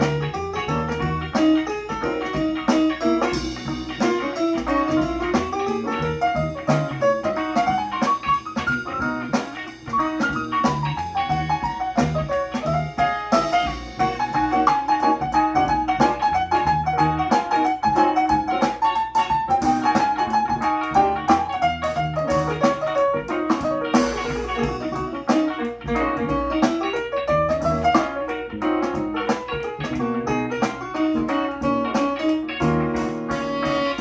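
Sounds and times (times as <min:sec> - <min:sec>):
jazz-funk music on speakers: 0:00.0 - 0:34.0.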